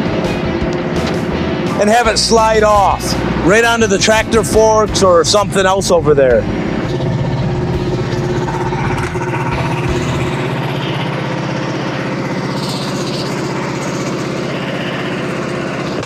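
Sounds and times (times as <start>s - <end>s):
small gasoline engine running: 2.6s - 16.0s.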